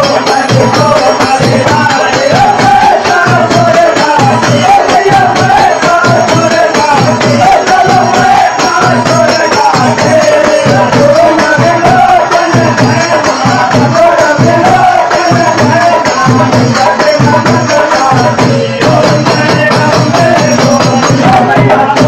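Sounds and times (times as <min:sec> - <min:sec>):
men singing devotional song: 0:00.0 - 0:22.0
rhythmic percussion: 0:00.0 - 0:22.0.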